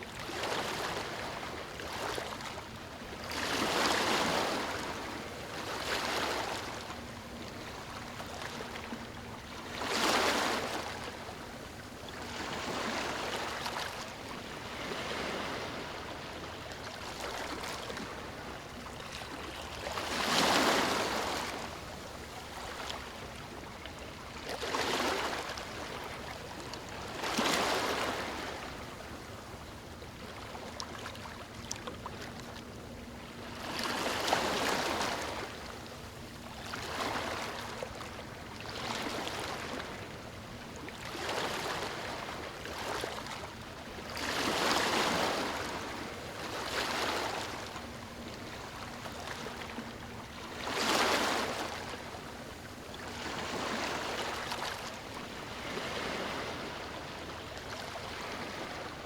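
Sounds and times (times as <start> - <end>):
ocean waves breaking: 0.2 - 23.4, 24.5 - 29.2, 30.3 - 40.2, 40.8 - 59.0.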